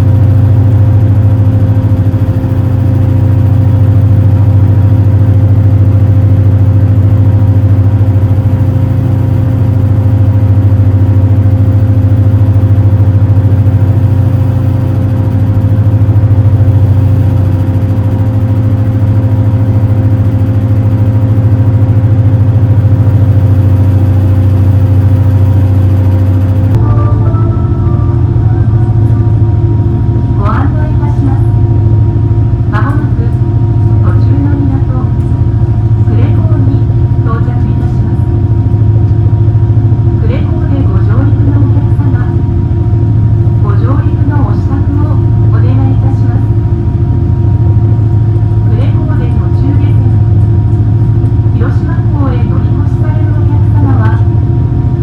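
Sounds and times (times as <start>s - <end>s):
boat engines droning: 0.0s - 55.0s.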